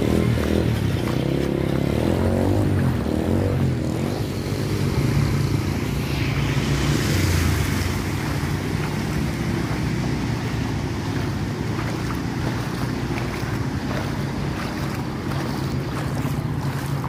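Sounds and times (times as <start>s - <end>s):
vehicle engine running: 0.0s - 17.0s
water splashing: 0.0s - 17.0s.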